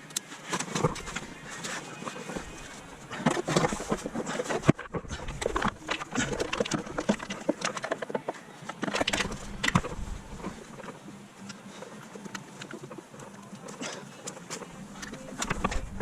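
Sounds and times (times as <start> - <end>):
faint steady hum: 0.0 - 16.0
tools and parts clattering: 0.2 - 11.0, 12.0 - 16.0.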